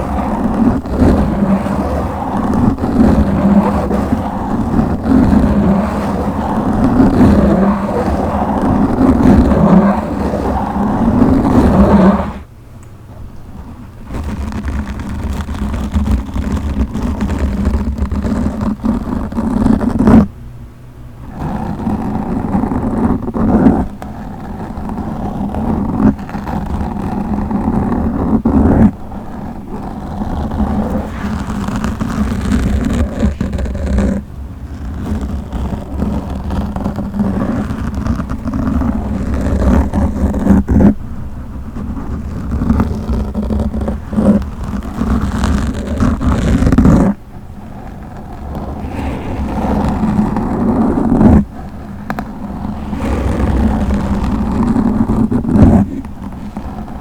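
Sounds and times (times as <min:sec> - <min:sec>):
fingers scratching a microphone: 0:00.0 - 0:12.5, 0:13.4 - 0:20.3, 0:21.2 - 0:57.0.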